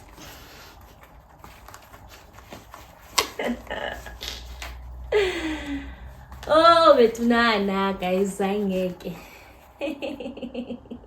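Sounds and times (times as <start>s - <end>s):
packaging rustling: 0.0s - 9.8s.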